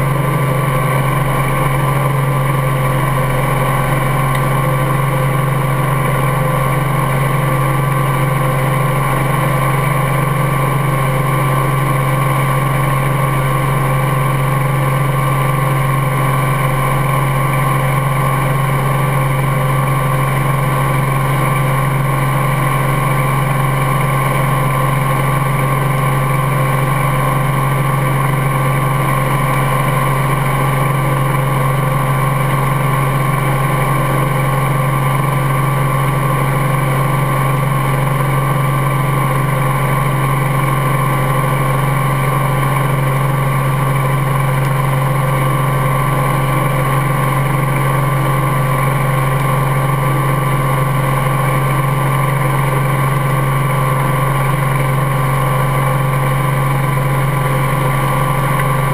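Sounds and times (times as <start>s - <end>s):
helicopter engine and rotor drone: 0.0s - 58.9s.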